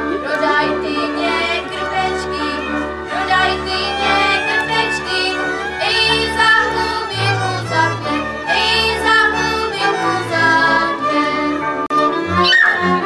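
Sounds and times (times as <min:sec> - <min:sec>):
folk string band playing: 0:00.0 - 0:13.0.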